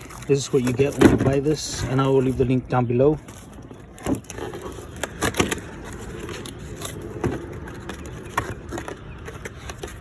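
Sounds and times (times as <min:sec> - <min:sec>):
knocks and scraping of packaging: 0:00.0 - 0:02.6, 0:03.2 - 0:10.0.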